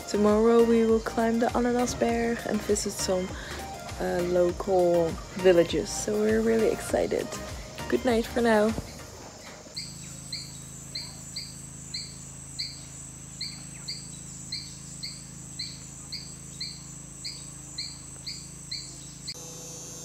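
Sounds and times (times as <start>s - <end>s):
bird chirping: 0.0s - 19.4s
high insect drone: 0.0s - 20.0s.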